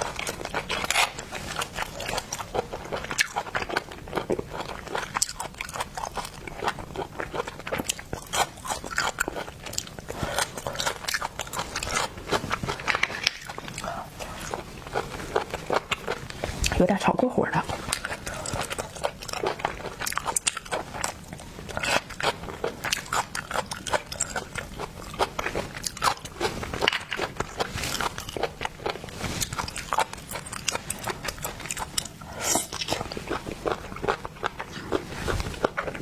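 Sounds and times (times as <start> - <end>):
person chewing crunchy food: 0.0 - 17.0, 17.6 - 36.0.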